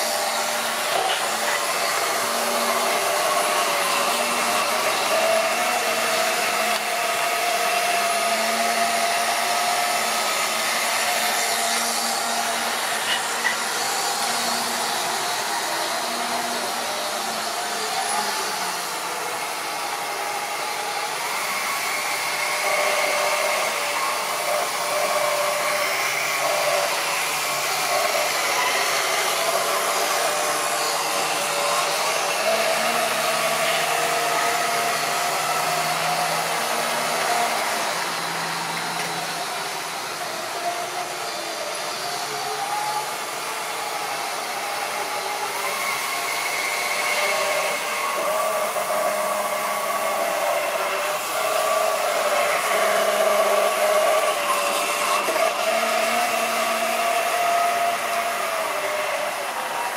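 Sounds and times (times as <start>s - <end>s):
model train motor whirring: 0.0s - 59.9s.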